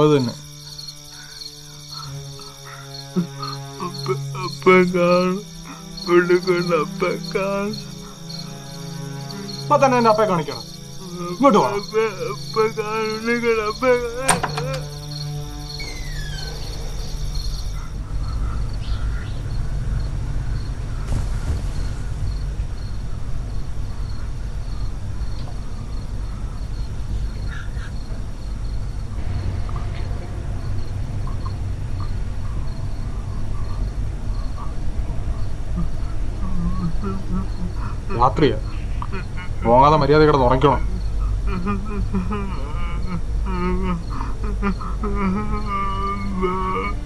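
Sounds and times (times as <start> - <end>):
continuous low rumble: 0.0 - 47.0
crickets chirping: 0.0 - 47.0.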